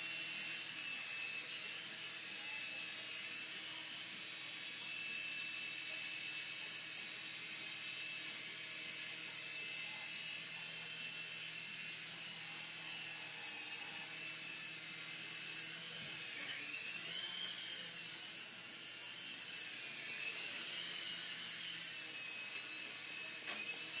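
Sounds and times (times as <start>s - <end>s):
rc helicopter motor whining: 0.0s - 24.0s.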